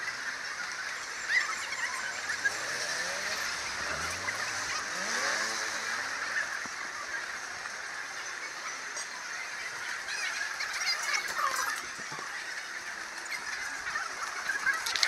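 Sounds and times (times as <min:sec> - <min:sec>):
crowd and city noise: 0:00.0 - 0:15.0.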